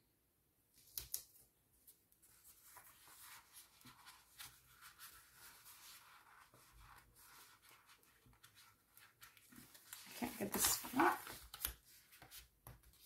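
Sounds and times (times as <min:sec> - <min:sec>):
paper sheets rustling: 0:02.3 - 0:13.0.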